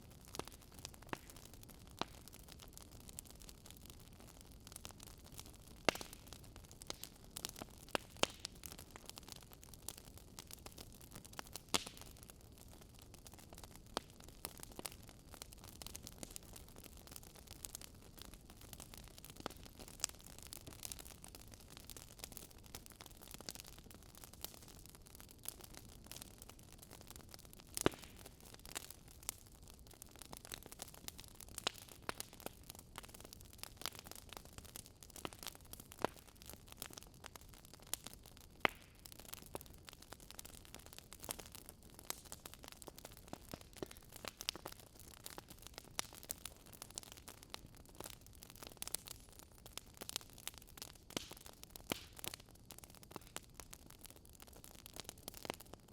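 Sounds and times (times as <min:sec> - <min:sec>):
wood fire crackling: 0:00.0 - 0:55.9
burning logs popping: 0:00.1 - 0:55.9.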